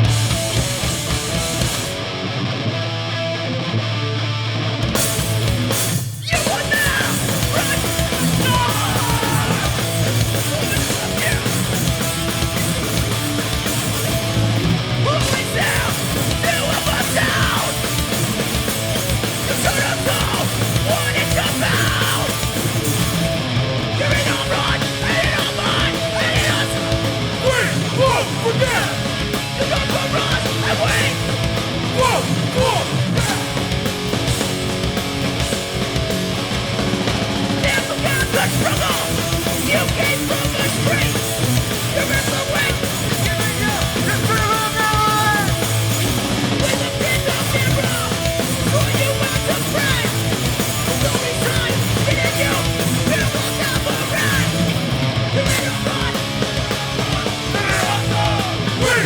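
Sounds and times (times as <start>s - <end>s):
hardcore punk band playing live: 0.0s - 59.0s
shouted vocals: 6.2s - 33.8s, 37.6s - 59.0s.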